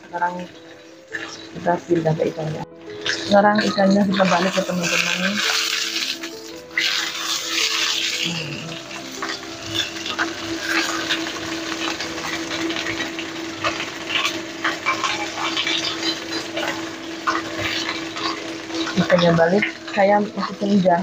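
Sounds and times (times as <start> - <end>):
oil crackling and spattering: 0.0 - 21.0
spatula scraping: 0.6 - 1.6, 2.8 - 20.8.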